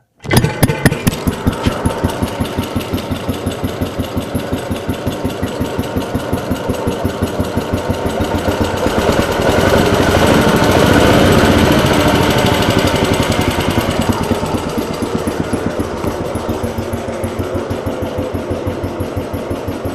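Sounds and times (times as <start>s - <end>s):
small engine running: 0.2s - 19.9s.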